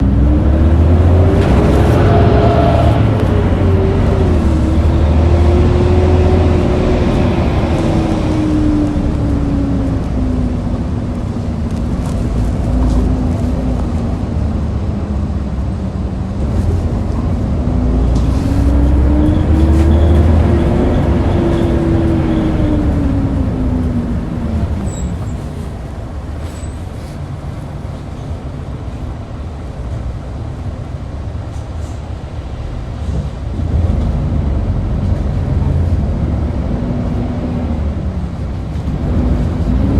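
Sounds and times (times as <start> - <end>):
bus engine rumble and whine: 0.0 - 39.9.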